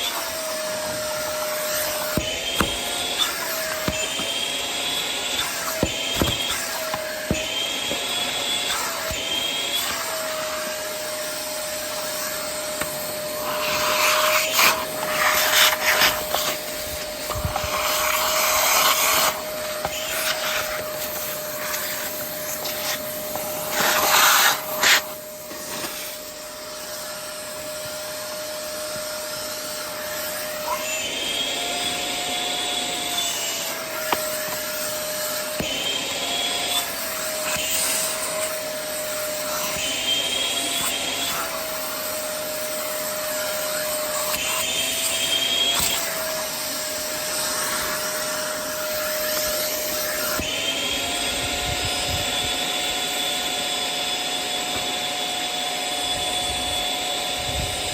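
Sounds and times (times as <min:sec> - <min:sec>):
vacuum cleaner motor whine: 0:00.0 - 0:57.9
vacuum hose scraping fabric: 0:00.0 - 0:57.9.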